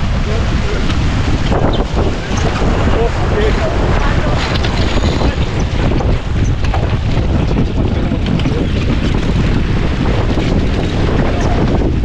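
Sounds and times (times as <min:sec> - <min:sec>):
water splashing along hull: 0:00.0 - 0:12.0
wind buffeting microphone: 0:00.0 - 0:12.0.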